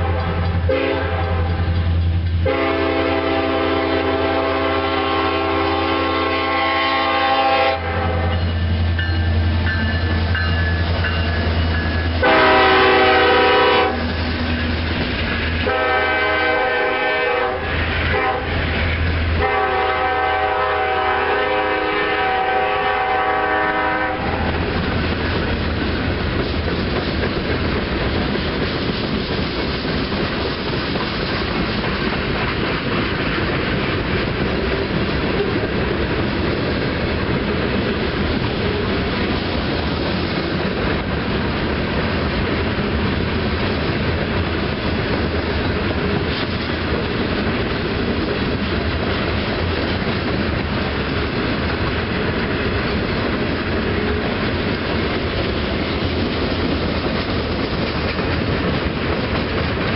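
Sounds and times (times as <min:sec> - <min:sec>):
freight cars rolling on rails: 0:00.0 - 0:59.9.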